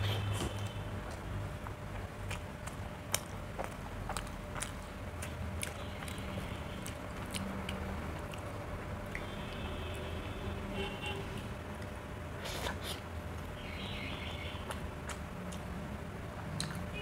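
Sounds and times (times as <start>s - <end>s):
chewing and wet mouth sounds: 0.1s - 10.1s, 11.8s - 17.0s.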